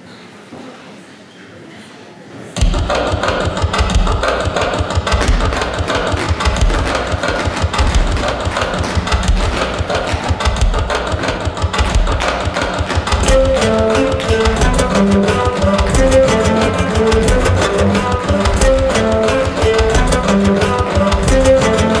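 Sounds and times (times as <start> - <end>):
tap shoes clattering on stage: 2.6 - 22.0.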